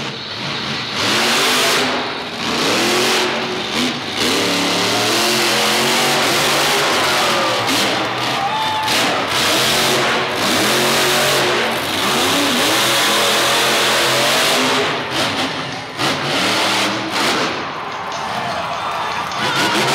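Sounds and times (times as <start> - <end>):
monster truck engine revving: 0.0 - 19.9.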